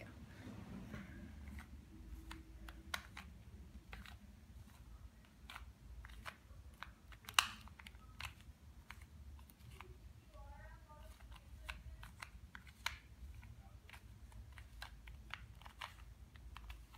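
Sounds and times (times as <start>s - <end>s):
puzzle cube layers clicking: 1.4s - 10.0s, 11.1s - 16.9s.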